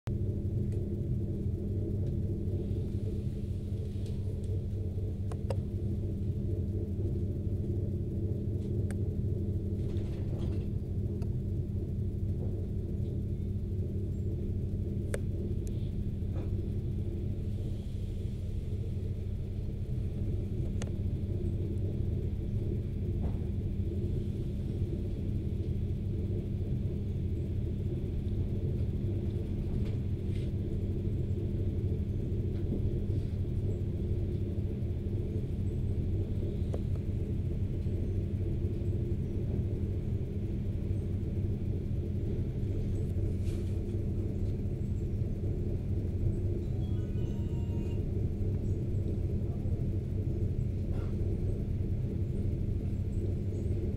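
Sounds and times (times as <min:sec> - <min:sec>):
train low rumble and hum: 0:00.0 - 0:53.9.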